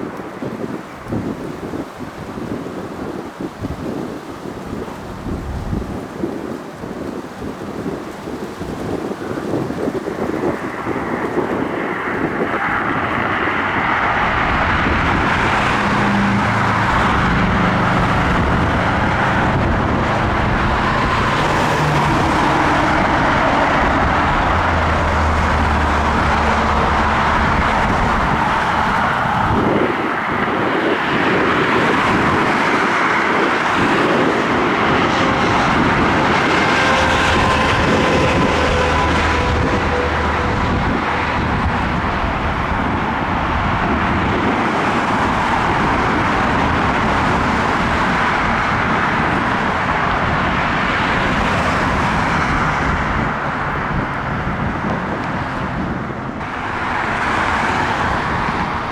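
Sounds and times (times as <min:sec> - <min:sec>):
jet engines rushing: 0:09.0 - 0:58.9.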